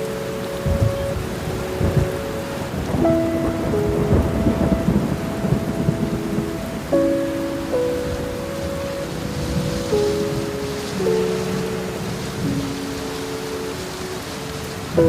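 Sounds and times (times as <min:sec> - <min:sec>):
soft sustained music chords: 0:00.0 - 0:15.0
steady rain: 0:00.0 - 0:15.0
thunder rumbling: 0:00.0 - 0:15.0.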